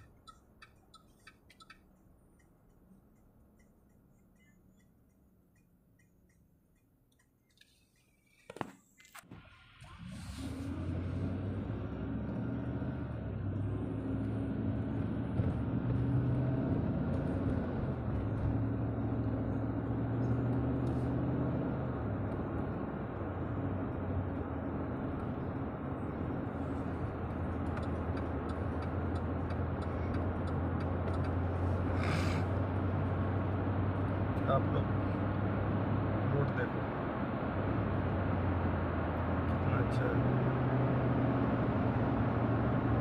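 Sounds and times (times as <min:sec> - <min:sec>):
car engine hum: 0:00.0 - 0:43.0
tyre and road noise: 0:00.0 - 0:43.0.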